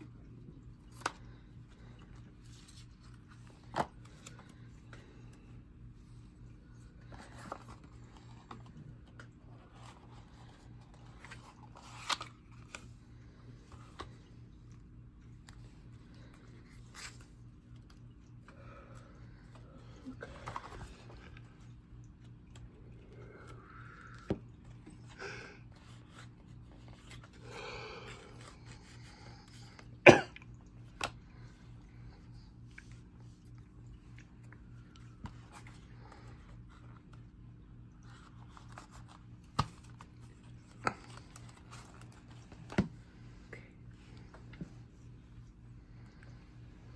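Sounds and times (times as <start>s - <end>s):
playing cards rustling: 0.8s - 5.6s, 6.2s - 18.6s, 19.4s - 22.7s, 23.4s - 30.0s, 32.6s - 45.5s.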